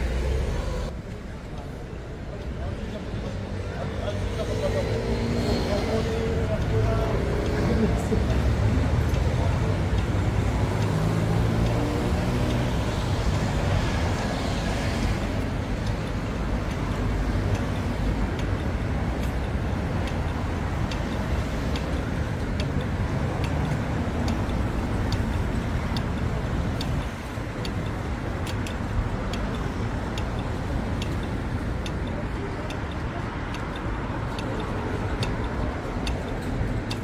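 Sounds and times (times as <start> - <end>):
cars passing: 0.0 - 37.0
pedestrian crossing signal ticking: 0.0 - 37.0.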